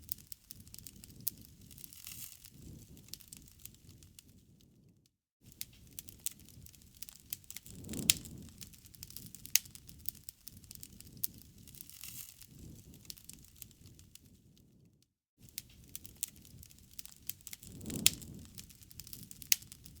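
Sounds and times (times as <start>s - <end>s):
wood fire crackling and popping: 0.0s - 4.9s, 5.5s - 14.9s, 15.5s - 20.0s
low rumble of flame: 0.0s - 20.0s.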